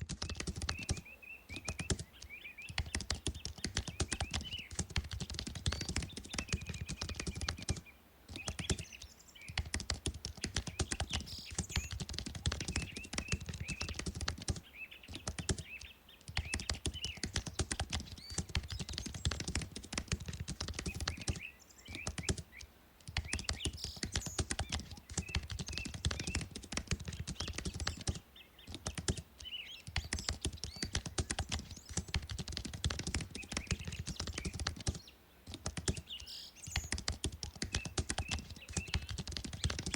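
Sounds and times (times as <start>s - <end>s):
computer keyboard typing: 0.0s - 8.9s, 9.5s - 22.4s, 23.0s - 39.9s.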